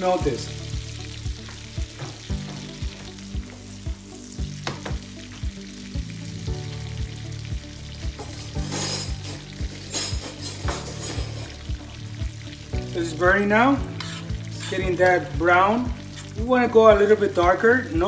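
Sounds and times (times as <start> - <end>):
butter sizzling in a pan: 0.0 - 18.0.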